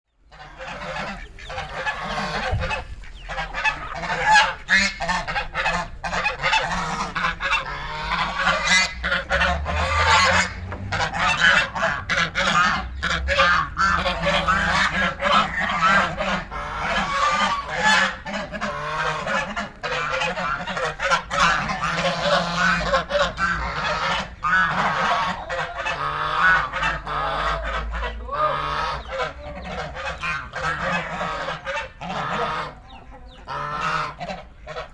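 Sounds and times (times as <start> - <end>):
flock of ducks calling: 0.1 - 34.9.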